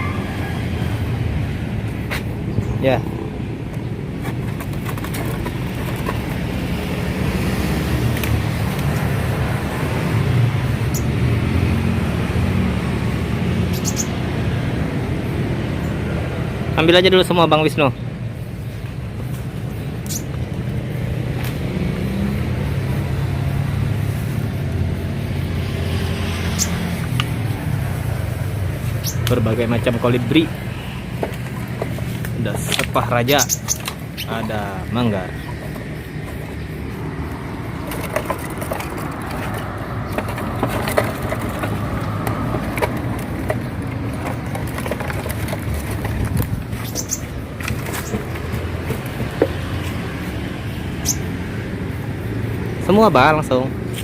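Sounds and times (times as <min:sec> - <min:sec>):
street traffic rumble: 0:00.0 - 0:54.0
vehicle engine humming: 0:00.0 - 0:54.0.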